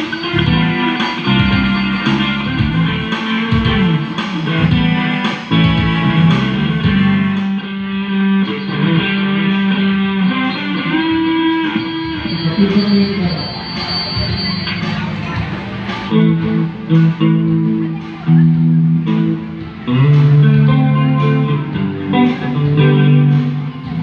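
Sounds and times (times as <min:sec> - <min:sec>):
electric guitar: 0:00.0 - 0:24.0
sliding bass line: 0:00.0 - 0:24.0.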